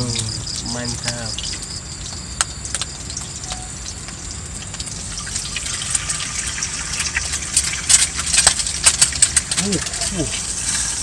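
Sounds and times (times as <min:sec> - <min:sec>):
egg frying in hot oil: 0:00.0 - 0:11.0
oil spitting crackles: 0:00.0 - 0:11.0.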